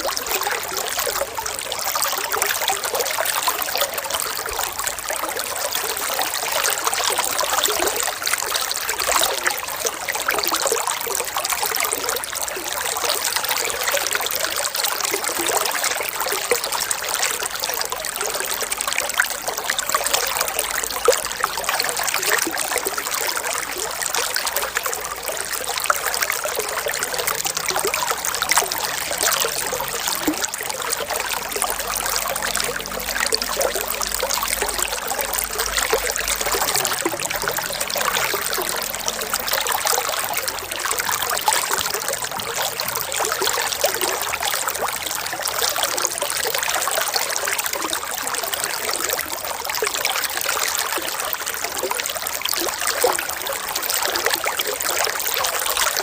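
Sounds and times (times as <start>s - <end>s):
small water splashes: 0.0s - 56.0s
water trickling and babbling: 0.0s - 56.0s.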